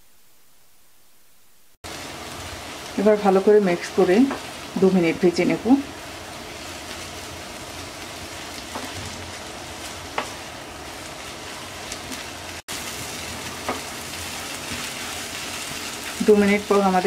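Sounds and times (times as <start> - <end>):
vegetables sizzling in a pan: 1.8 - 17.0.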